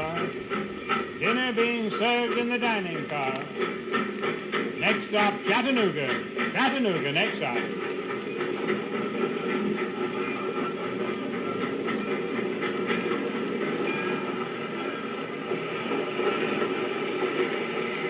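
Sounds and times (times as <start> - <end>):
passenger train running on rails: 0.0 - 18.0.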